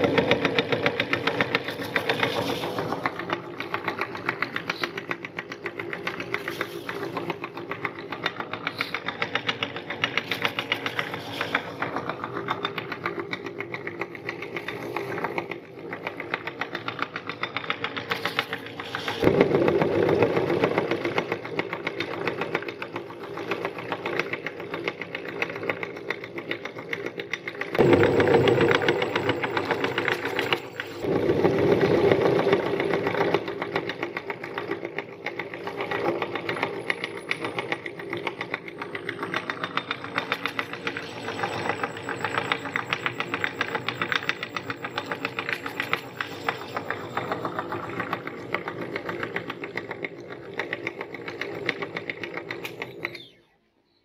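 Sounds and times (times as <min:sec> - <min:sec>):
meat grinder crushing cookies: 0:00.0 - 0:53.3.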